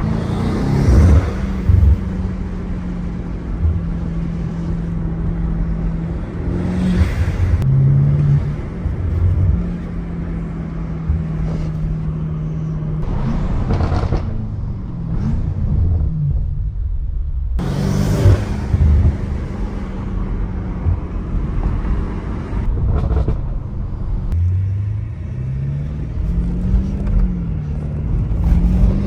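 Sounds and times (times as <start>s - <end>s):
car engine drone: 0.0s - 29.0s
road and exhaust noise: 0.0s - 29.0s.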